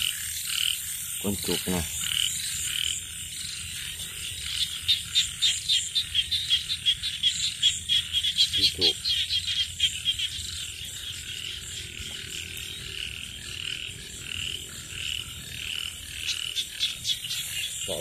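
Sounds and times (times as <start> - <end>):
frogs calling: 0.0 - 18.0
insects chirping: 0.0 - 18.0.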